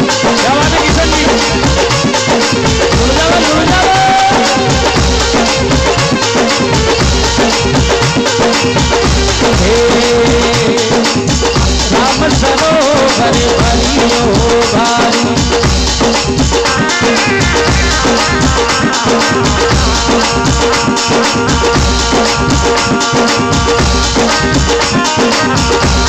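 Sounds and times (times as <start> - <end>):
rattling percussion: 0.0 - 26.0
steady drum beat: 0.0 - 26.0.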